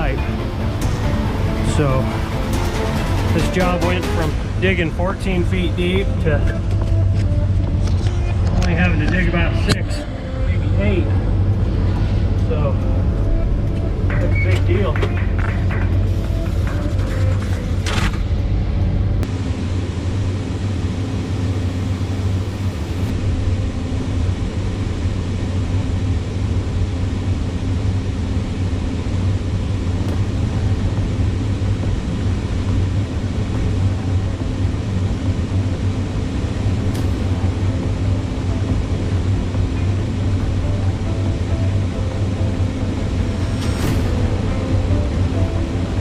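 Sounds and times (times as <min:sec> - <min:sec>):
excavator diesel engine rumbling: 0:00.0 - 0:46.0.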